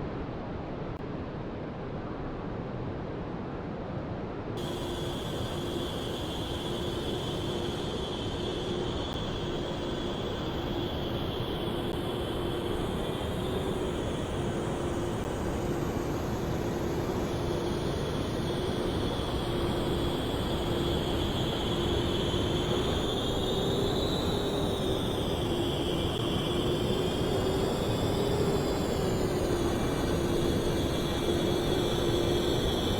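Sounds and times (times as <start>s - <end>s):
jet engines rumbling and whining: 4.6s - 32.9s.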